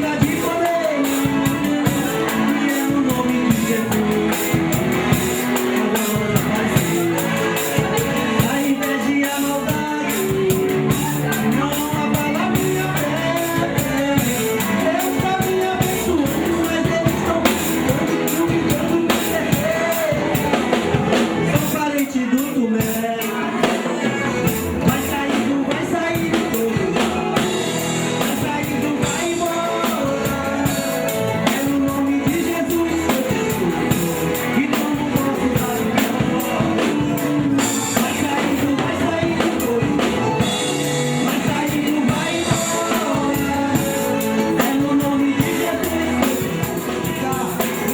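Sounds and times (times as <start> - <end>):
bass: 0.0 - 47.9
drum kit beat: 0.0 - 47.9
electric guitar: 0.0 - 47.9
keyboard: 0.0 - 47.9
singing: 0.0 - 47.9.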